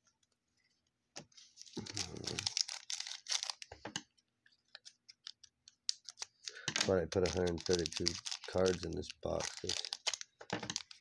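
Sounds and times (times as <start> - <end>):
cards clicking and rustling: 1.2 - 4.0, 4.6 - 11.0
plastic wrapper crinkling and tearing: 1.4 - 3.8, 4.4 - 11.0.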